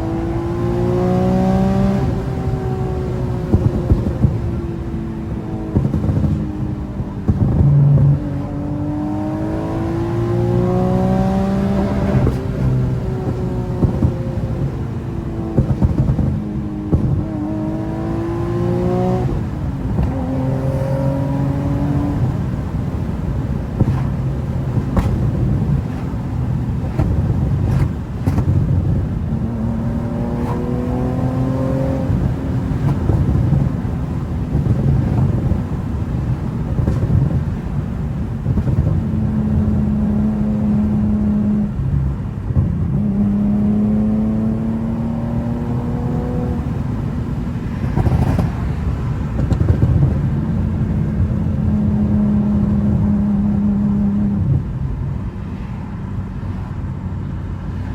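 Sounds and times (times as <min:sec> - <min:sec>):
car engine accelerating hard: 0:00.0 - 0:57.9
exhaust pops: 0:01.0 - 0:54.6.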